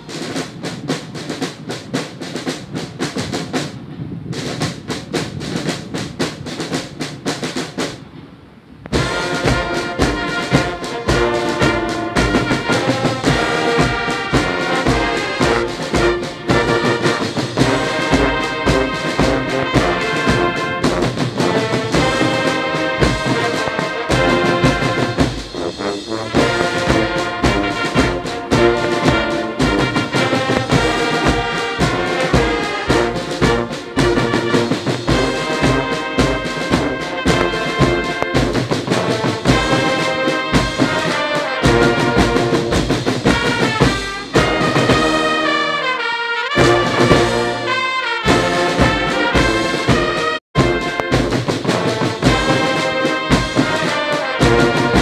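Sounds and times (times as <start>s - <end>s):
brass band music: 0.0s - 3.7s, 4.4s - 8.0s, 8.9s - 55.0s.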